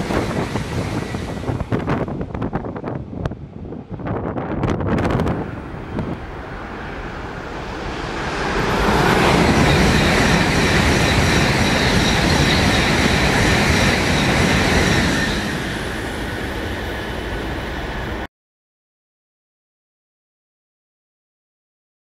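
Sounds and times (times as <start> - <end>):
train rushing past: 0.0 - 18.3.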